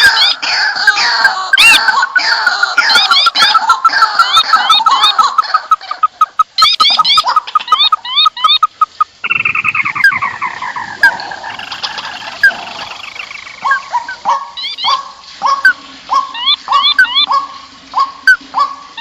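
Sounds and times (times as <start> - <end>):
birds calling noisily: 0.0 - 19.0.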